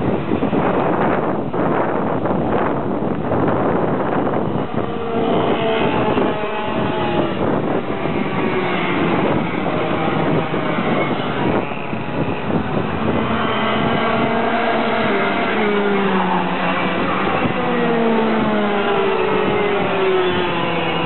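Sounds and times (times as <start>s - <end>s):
racing kart engines buzzing: 0.0s - 21.0s.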